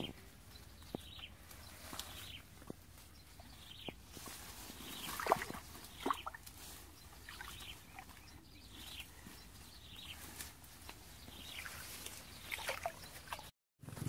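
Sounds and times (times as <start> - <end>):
leaves and twigs rustling: 0.0 - 13.5.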